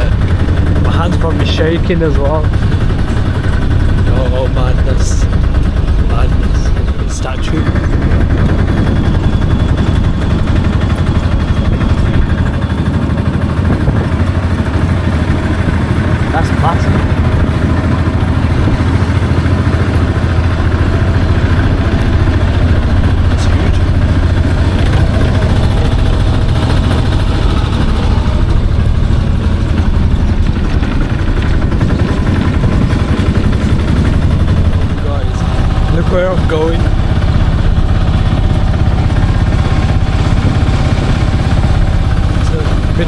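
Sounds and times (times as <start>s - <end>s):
car engine running: 0.0s - 43.0s
road noise: 0.0s - 43.0s.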